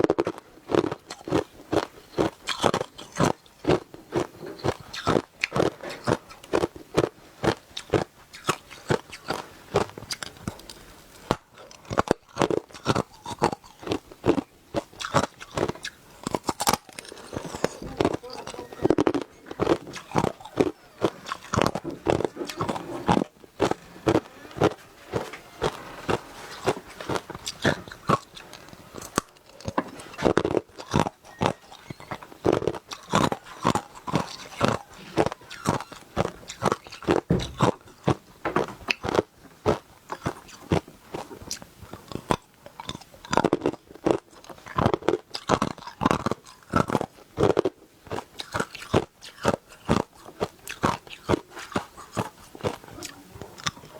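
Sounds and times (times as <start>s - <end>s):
ice crunching between teeth: 0.0s - 53.9s.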